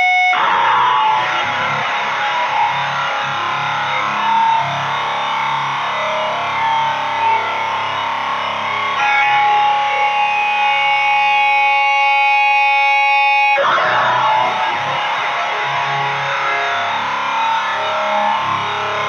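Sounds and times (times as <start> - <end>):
distorted electric guitar riffing: 0.0 - 19.0.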